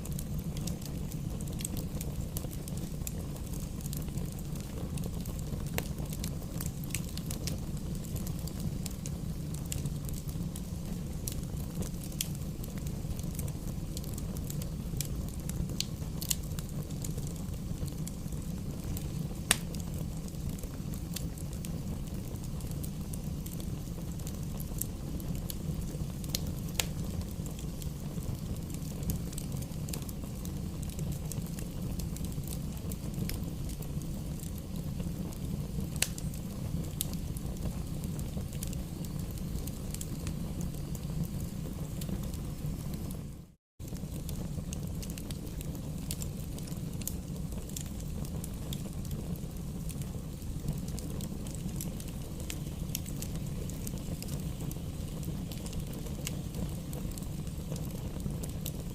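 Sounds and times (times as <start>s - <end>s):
bonfire burning: 0.0s - 58.9s
wood crackling and popping: 0.0s - 58.9s.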